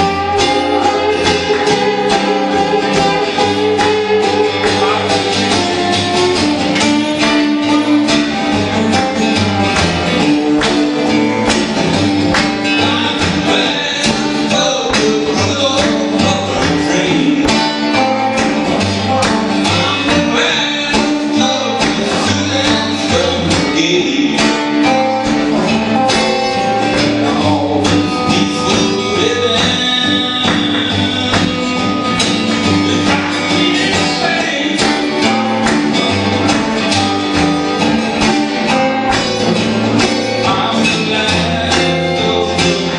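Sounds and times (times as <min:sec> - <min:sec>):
acoustic guitars playing: 0:00.0 - 0:42.9.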